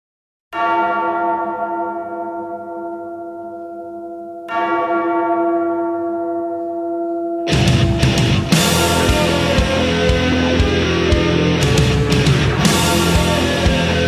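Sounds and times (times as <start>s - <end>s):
bell tolling: 0.6s - 14.0s.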